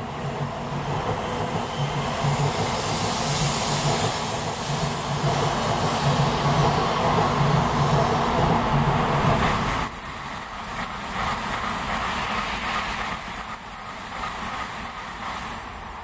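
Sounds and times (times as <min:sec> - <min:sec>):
high-speed train rushing past: 0:00.0 - 0:16.0
train passing with high whine: 0:00.0 - 0:16.0.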